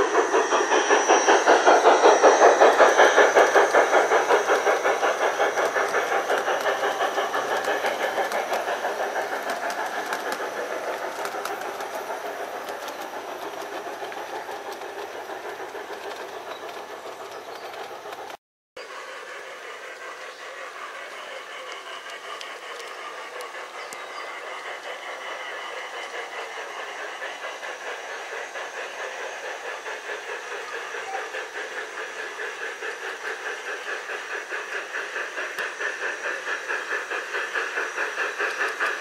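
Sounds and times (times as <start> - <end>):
model train running past: 0.0 - 39.0.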